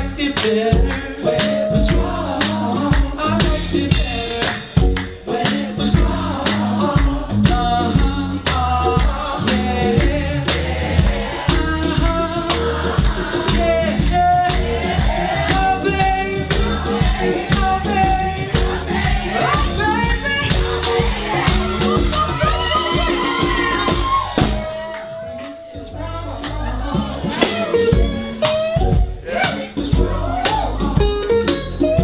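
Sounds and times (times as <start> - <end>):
man singing lead vocal: 0.0 - 31.6
live soul band playing: 0.0 - 32.0.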